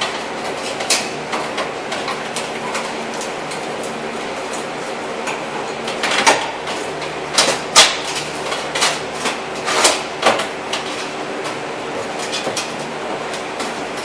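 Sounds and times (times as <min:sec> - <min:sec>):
steady shop hum: 0:00.0 - 0:14.0.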